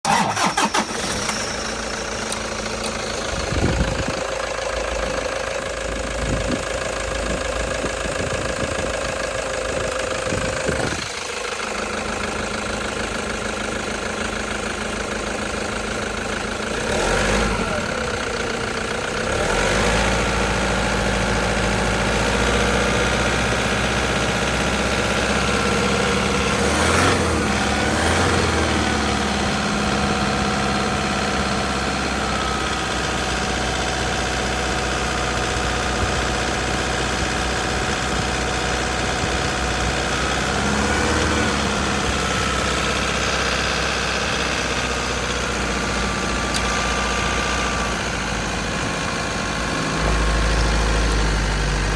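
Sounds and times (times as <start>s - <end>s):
diesel engine idling and revving: 0.0s - 51.9s.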